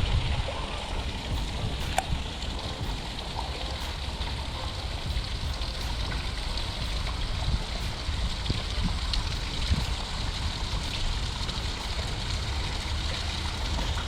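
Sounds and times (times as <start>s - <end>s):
river water rushing: 0.0s - 14.0s
wind on microphone: 0.0s - 14.0s.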